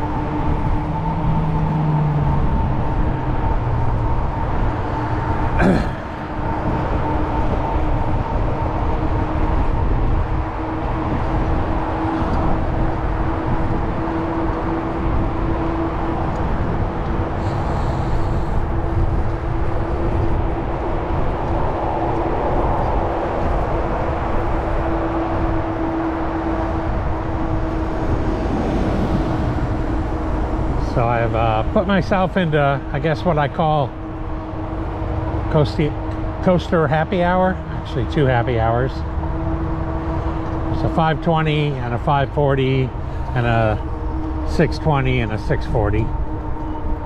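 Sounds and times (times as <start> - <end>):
low hum: 0.0 - 47.0
road rumble: 0.0 - 47.0
wind noise: 0.0 - 47.0.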